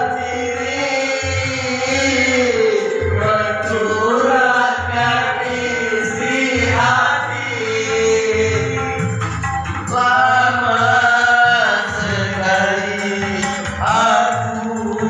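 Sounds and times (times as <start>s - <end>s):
person singing: 0.0s - 9.2s, 9.9s - 15.0s
musical accompaniment: 0.0s - 15.0s.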